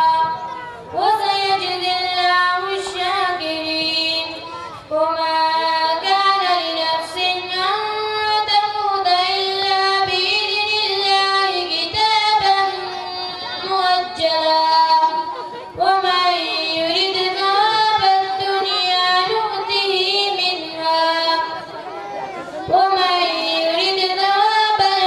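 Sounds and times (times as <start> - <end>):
boy chanting: 0.0 - 25.0.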